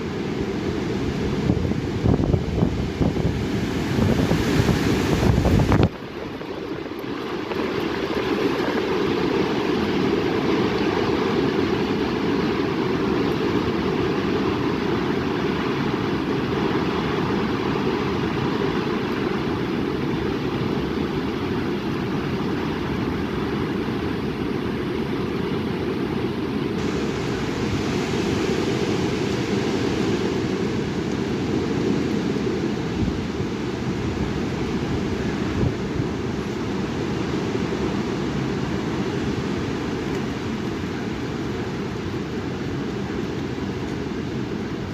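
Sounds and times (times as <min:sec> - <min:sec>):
strong wind into microphone: 0:00.0 - 0:44.9.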